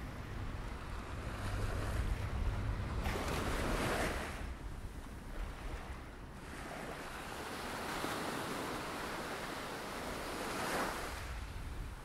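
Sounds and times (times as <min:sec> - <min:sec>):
small waves washing on beach: 0:00.0 - 0:12.0.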